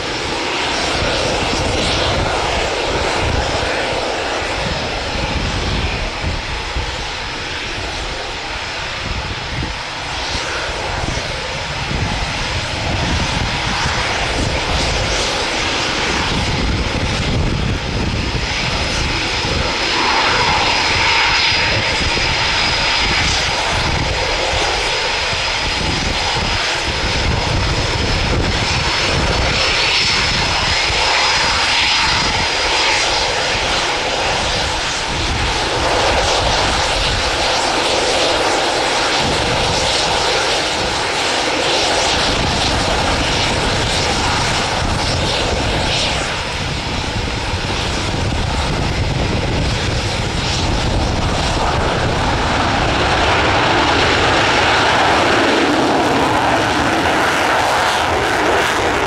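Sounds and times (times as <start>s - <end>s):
jet engines at taxi power: 0.0s - 59.0s.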